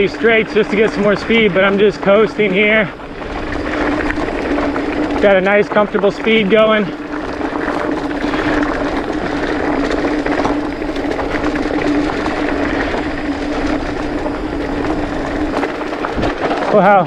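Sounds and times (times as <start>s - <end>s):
wind on microphone: 0.0s - 16.7s
bike whirring: 0.0s - 17.0s
tyres on dirt and rocks: 0.0s - 17.0s.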